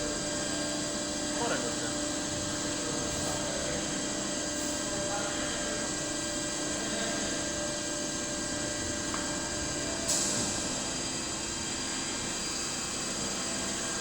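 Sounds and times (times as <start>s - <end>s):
lathe humming and whining: 0.0s - 14.0s.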